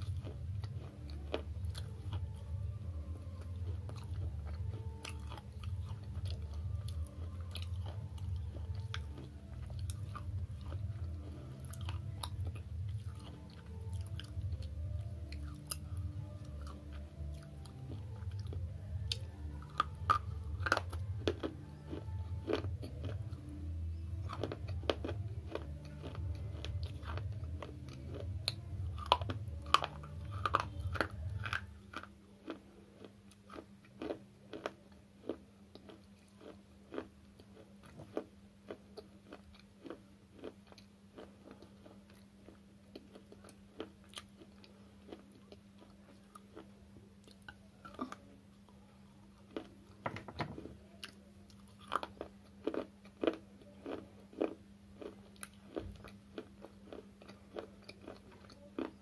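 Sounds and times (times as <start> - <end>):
chewing and crunching slate pencil: 0.0 - 59.0.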